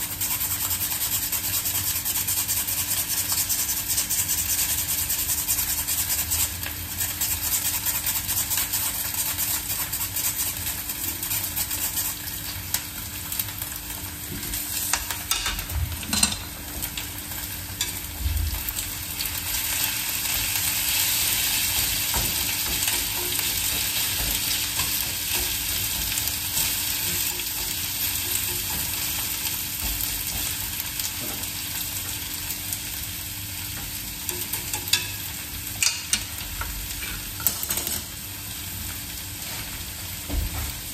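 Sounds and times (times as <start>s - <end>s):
potato sizzling in oil: 0.0s - 40.9s.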